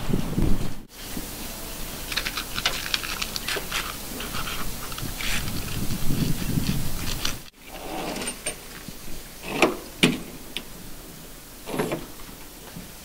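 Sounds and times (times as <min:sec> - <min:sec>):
rigging rustling and rumble: 0:00.0 - 0:13.0.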